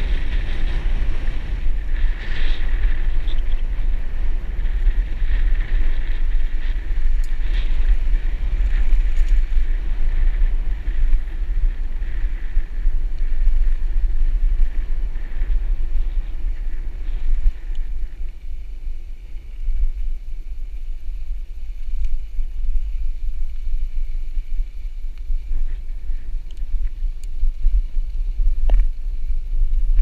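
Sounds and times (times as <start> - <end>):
bike clicks and rattles: 0.0 - 30.0
wind buffeting microphone: 0.0 - 30.0.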